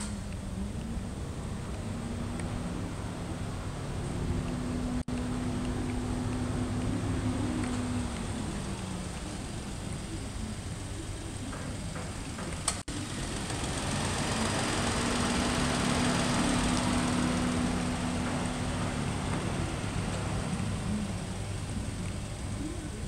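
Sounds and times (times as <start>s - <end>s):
car engine idling: 1.0s - 22.4s.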